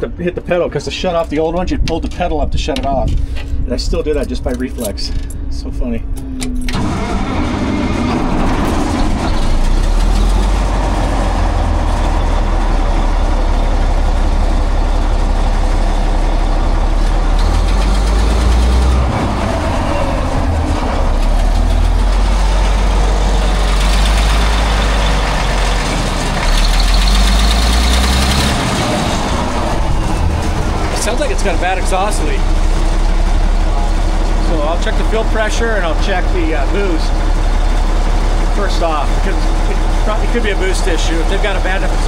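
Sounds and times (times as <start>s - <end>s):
diesel engine rumbling: 0.0s - 42.0s.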